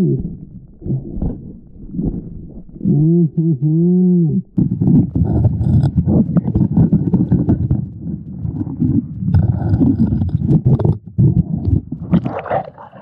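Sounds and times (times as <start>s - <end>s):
underwater creek rumble: 0.0s - 13.0s.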